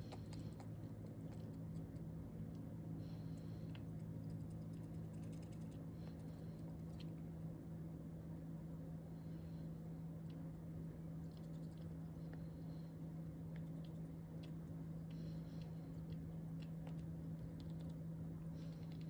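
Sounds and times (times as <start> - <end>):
small animal eating clicks: 0.0 - 2.7, 3.3 - 7.6, 9.7 - 19.0
steady low hum: 0.0 - 19.0.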